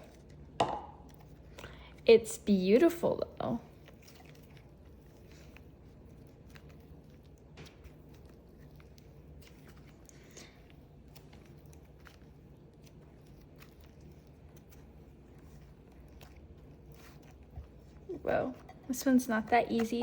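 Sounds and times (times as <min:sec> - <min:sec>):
hands kneading stiff slime: 0:00.0 - 0:20.0.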